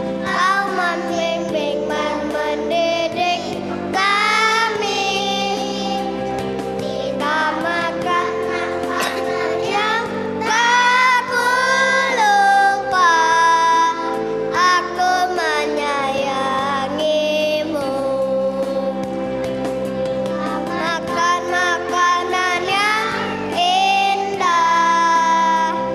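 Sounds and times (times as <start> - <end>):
children's choir singing: 0.0 - 18.8, 20.3 - 25.9
held accompaniment chords: 0.0 - 25.9.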